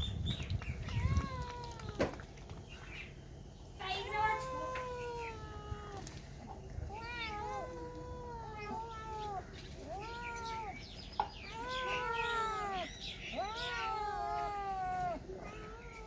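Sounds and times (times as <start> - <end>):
cats meowing: 0.8 - 2.2, 3.8 - 16.0.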